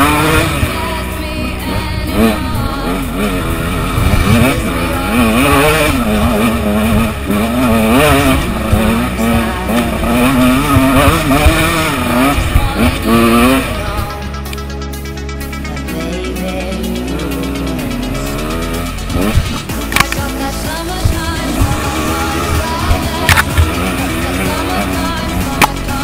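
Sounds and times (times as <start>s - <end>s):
music: 0.0s - 26.0s
two-stroke motorbike engine revving: 0.0s - 26.0s.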